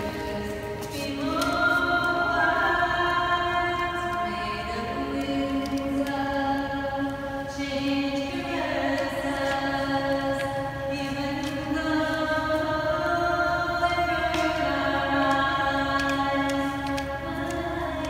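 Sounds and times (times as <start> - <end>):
slow choral music: 0.0 - 18.0.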